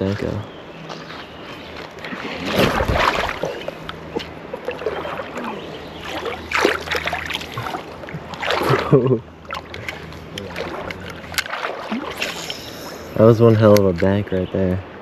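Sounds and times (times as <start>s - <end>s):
water splashing as person wades: 1.0s - 13.2s.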